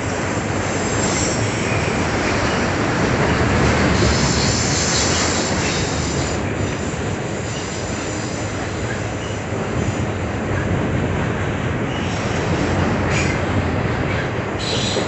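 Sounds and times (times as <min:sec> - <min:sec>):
freight cars rumbling on rails: 0:00.0 - 0:15.0.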